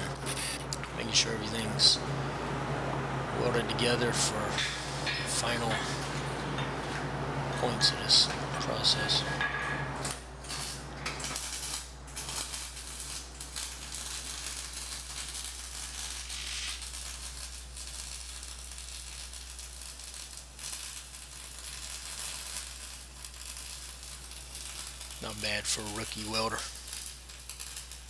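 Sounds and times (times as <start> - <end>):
welding arc crackling and hissing: 0.0 - 28.0.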